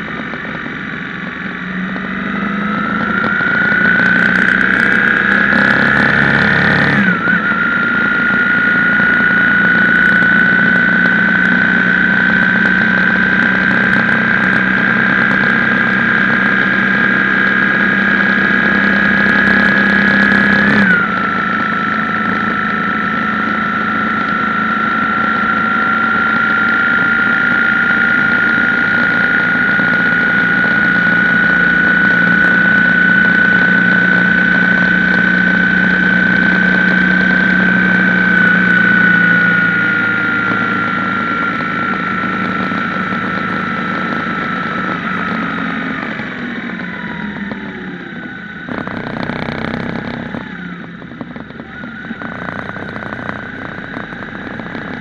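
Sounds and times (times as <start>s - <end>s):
motorcycle engine whining: 0.0s - 55.0s.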